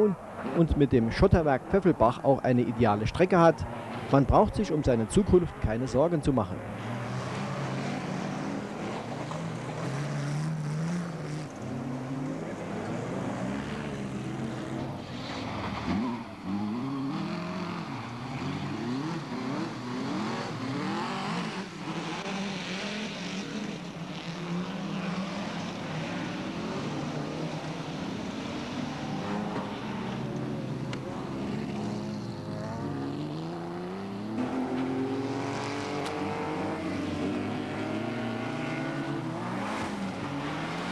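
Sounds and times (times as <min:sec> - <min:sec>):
race car engines revving: 0:00.0 - 0:40.9.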